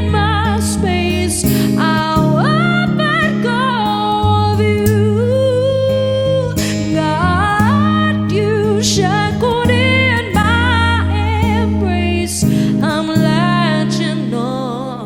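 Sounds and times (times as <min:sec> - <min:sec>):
acoustic guitar chords: 0:00.0 - 0:15.0
person singing with vibrato: 0:00.0 - 0:15.0.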